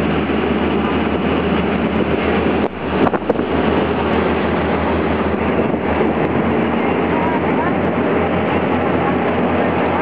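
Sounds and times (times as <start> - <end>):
boat engine drone: 0.0 - 10.0
rushing water: 0.0 - 10.0
wind on microphone: 0.0 - 10.0.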